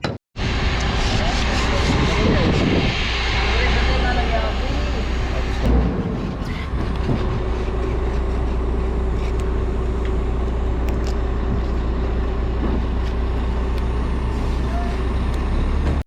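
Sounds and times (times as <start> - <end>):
motor running: 0.8 - 15.7.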